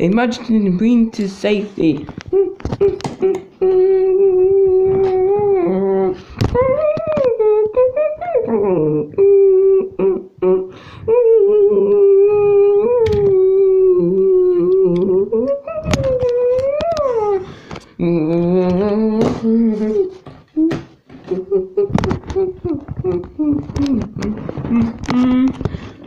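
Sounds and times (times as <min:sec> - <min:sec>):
person humming held notes: 0:02.3 - 0:26.0.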